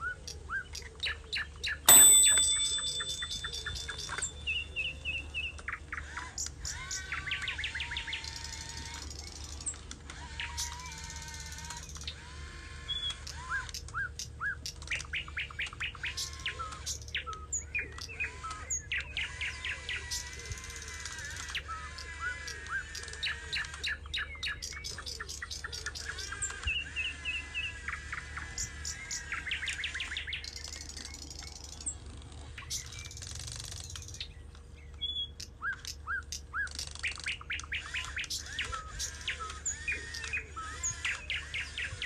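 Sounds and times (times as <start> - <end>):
small birds chirping and trilling: 0.0 - 42.0.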